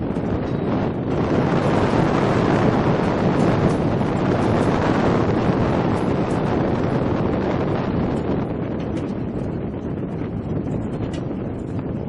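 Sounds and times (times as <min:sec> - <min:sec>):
strong wind with rain: 0:00.0 - 0:12.0.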